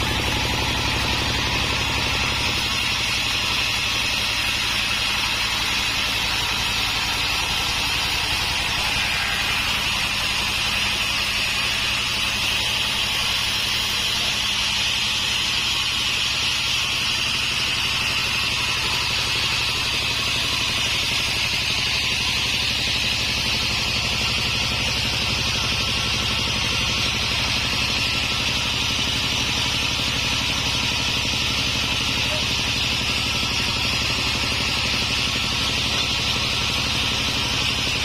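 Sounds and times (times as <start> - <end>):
low motor drone: 0.0 - 38.0
saw cutting through log: 0.0 - 38.0.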